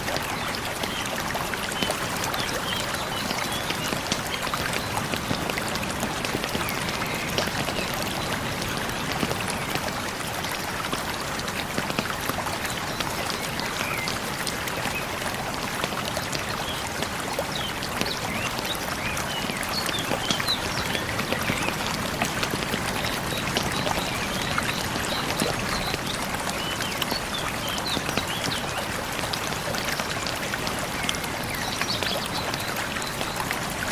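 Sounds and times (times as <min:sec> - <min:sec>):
stream trickling: 0:00.0 - 0:33.9.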